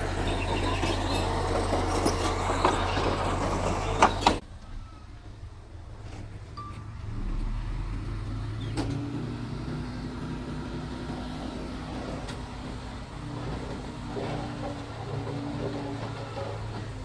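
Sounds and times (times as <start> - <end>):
bulldozer diesel engine running: 0.0 - 17.0
engine whine: 0.0 - 17.0.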